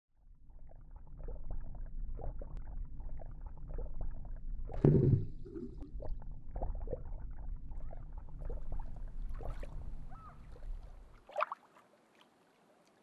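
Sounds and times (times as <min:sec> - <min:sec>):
low underwater rumble: 0:00.2 - 0:11.2
underwater bubbling and gurgling: 0:00.2 - 0:11.5.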